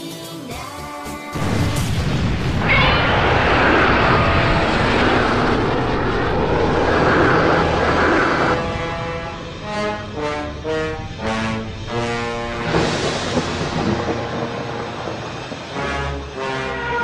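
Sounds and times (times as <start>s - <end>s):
rising whine: 1.4s - 15.9s
jet-like rushing noise: 1.4s - 16.5s.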